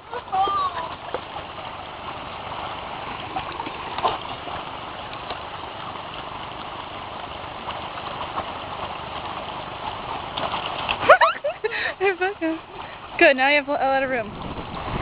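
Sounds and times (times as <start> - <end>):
creek babbling over rocks: 0.0 - 15.0.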